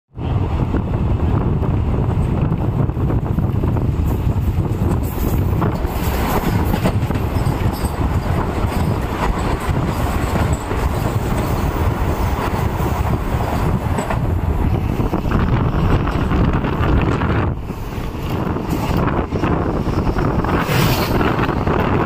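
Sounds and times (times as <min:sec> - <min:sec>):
train wheels rushing on rail: 0:00.2 - 0:22.0.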